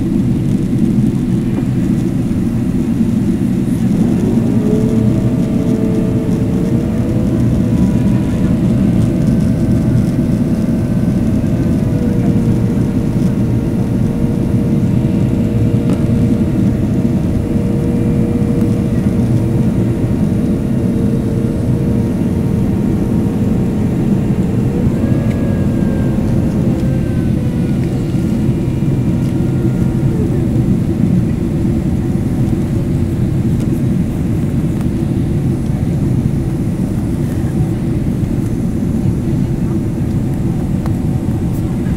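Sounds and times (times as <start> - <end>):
airplane cabin rushing noise: 0.0 - 41.9
jet engine whine: 0.0 - 41.9.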